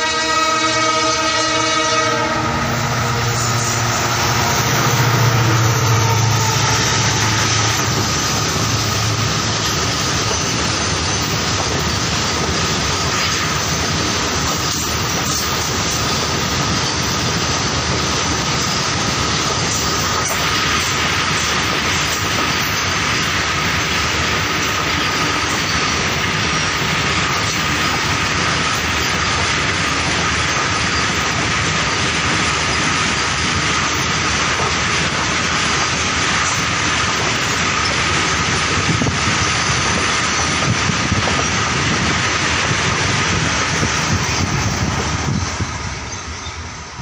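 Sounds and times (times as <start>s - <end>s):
train wheels clattering on rails: 2.6s - 47.0s.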